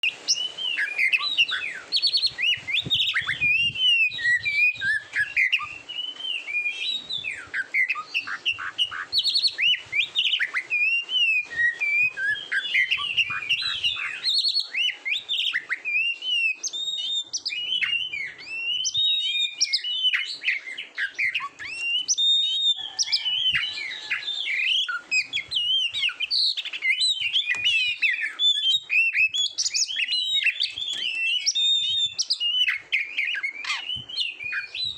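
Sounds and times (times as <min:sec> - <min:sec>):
bird singing whistles and trills: 0:00.0 - 0:34.9.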